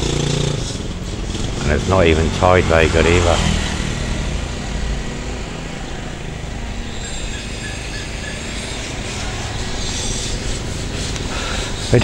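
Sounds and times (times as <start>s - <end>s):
passing traffic: 0.0s - 12.0s.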